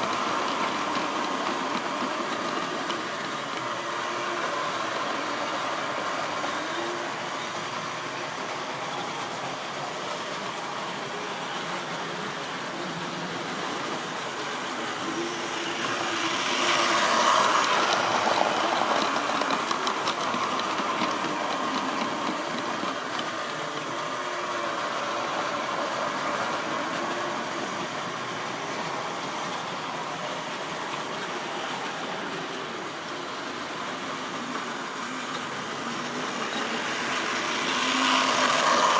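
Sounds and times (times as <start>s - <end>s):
model train motor hum: 0.0s - 38.9s.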